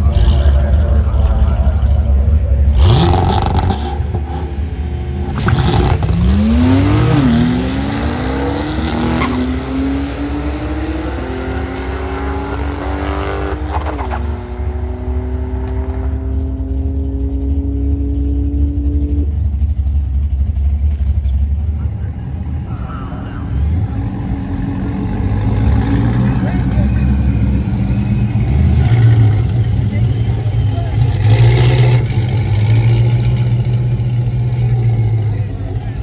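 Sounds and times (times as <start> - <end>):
cars accelerating hard: 0.0 - 19.8, 21.8 - 36.0.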